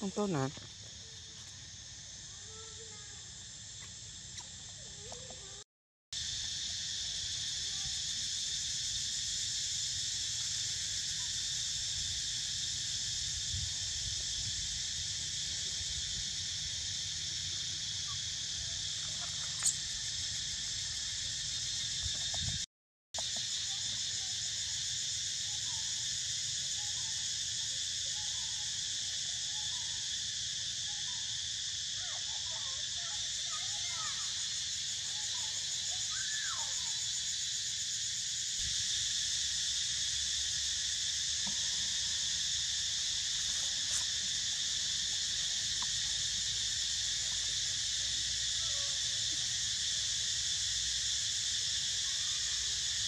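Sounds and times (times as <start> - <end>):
high-pitched insect chorus: 0.0 - 5.6, 6.2 - 53.0.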